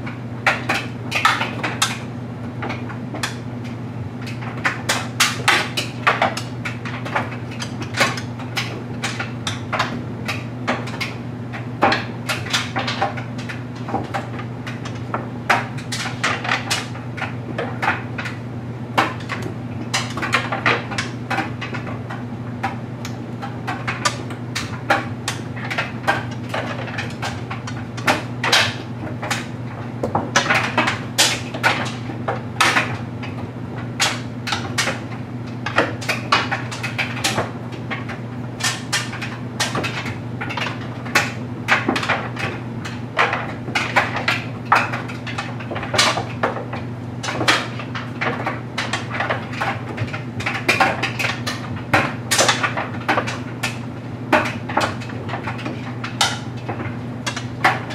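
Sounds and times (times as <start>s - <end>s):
clothes dryer humming: 0.0s - 57.9s
load tumbling in dryer drum: 0.0s - 57.9s.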